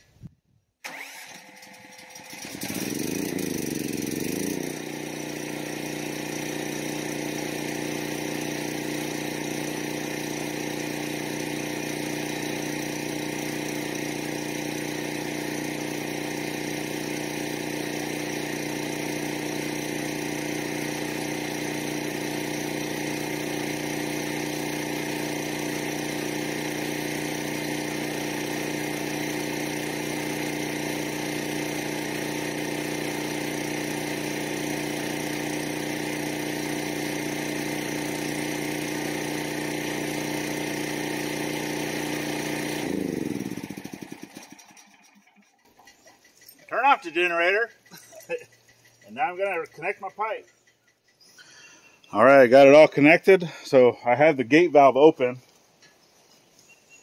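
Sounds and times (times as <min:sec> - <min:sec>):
portable generator engine running: 0:00.8 - 0:51.2.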